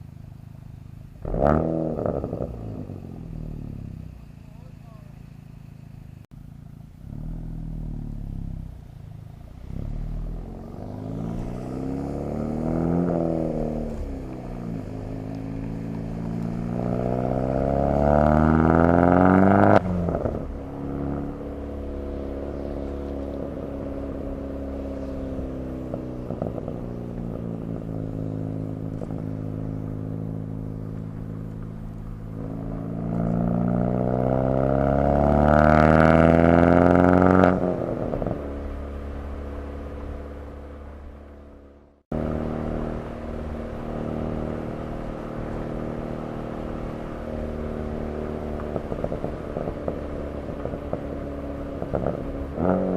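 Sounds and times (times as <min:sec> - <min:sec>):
turbocharged car engine accelerating: 0:00.0 - 0:52.9.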